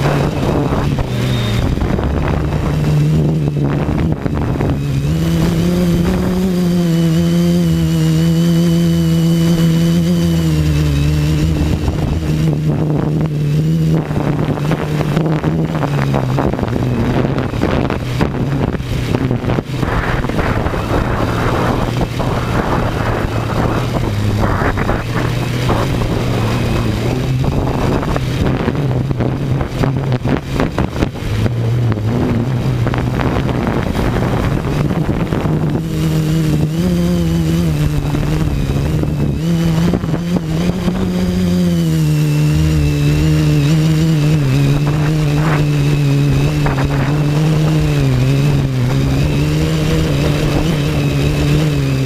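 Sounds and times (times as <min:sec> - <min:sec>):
rough rushing noise: 0:00.0 - 0:52.0.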